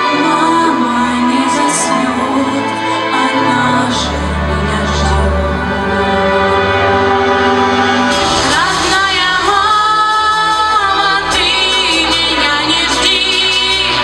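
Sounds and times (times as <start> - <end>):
instrumental backing music: 0.0 - 14.0
women singing: 0.0 - 14.0.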